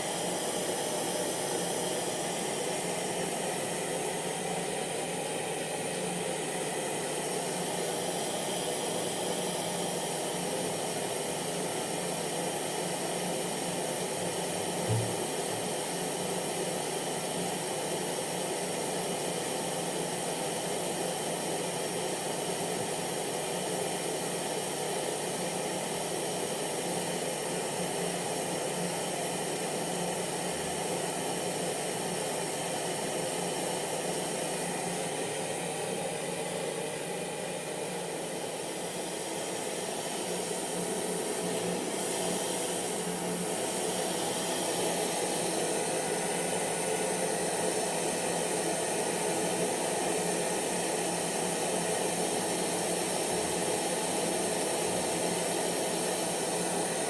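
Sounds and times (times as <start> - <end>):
hair dryer running: 0.0 - 16.8, 22.8 - 57.0.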